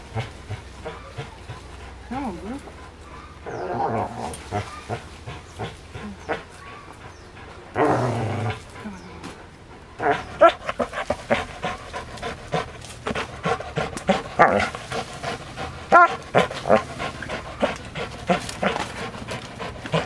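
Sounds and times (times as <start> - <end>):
dog panting hard: 0.0 - 3.4, 4.4 - 7.8, 8.5 - 20.0.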